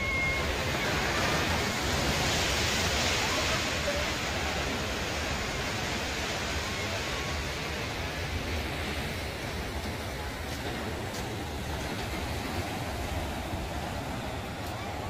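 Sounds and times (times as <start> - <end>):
waves washing on shore: 0.0 - 15.0.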